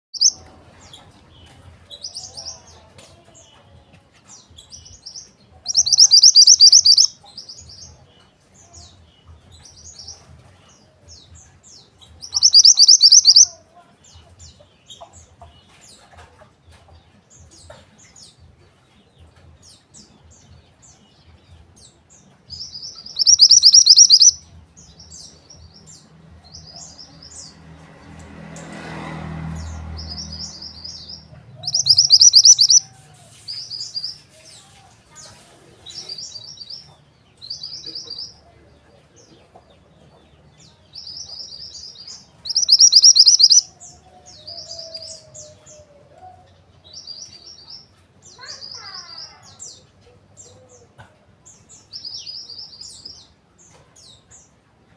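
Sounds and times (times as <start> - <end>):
bird chirping trills: 0.1 - 2.7, 4.3 - 13.6, 19.2 - 27.6, 29.4 - 34.4, 35.8 - 54.6.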